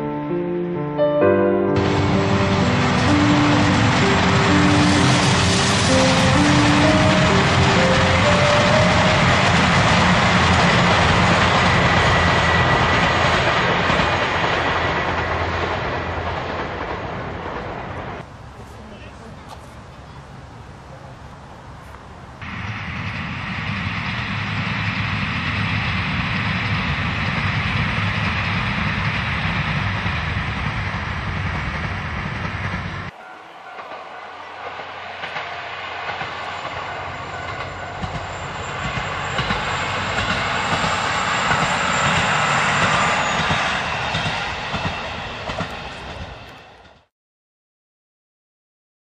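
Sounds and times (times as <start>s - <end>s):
train running past: 0.0s - 47.1s.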